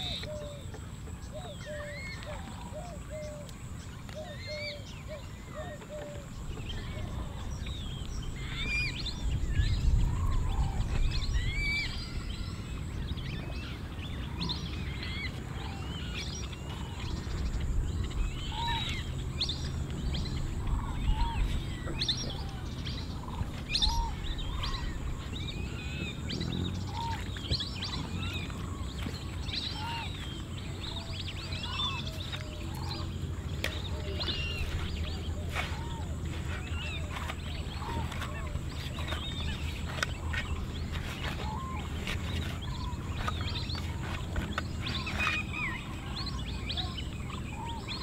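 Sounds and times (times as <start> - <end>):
small birds chirping: 0.0 - 48.0
steady low rumble: 6.2 - 48.0.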